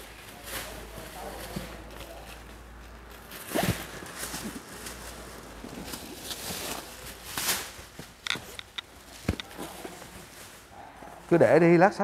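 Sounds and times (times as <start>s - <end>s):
plastic sacks rustling: 0.0s - 11.7s.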